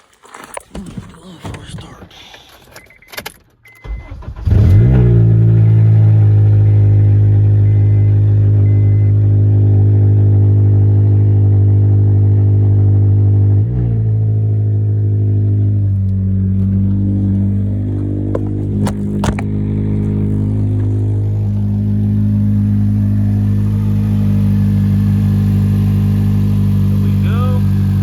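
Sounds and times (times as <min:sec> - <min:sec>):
car engine idling: 0:03.8 - 0:28.0.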